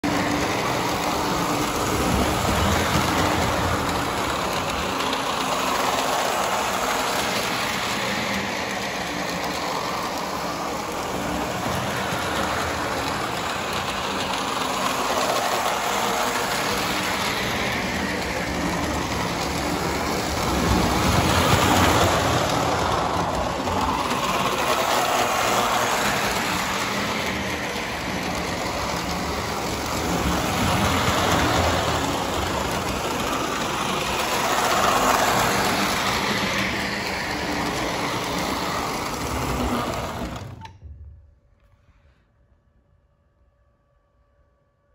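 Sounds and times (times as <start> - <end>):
toy train motor hum: 0.0 - 40.7
toy train wheels rumbling on rails: 0.0 - 40.8.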